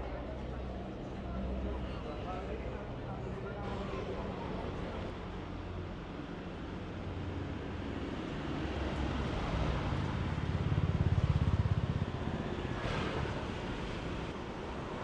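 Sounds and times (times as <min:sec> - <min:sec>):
road traffic: 0:00.2 - 0:15.0.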